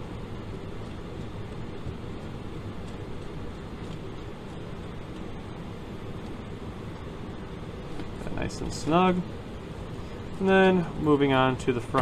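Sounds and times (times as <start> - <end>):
room noise hiss and hum: 0.0 - 12.0.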